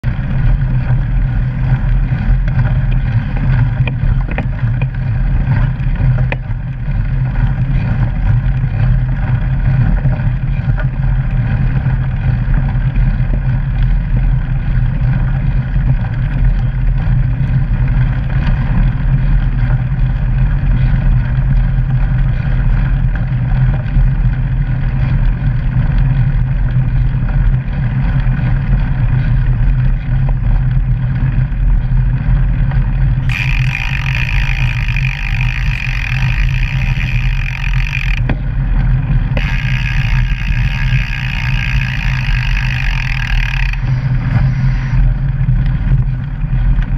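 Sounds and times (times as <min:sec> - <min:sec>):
mountain bike rolling rumble: 0:00.0 - 0:46.9.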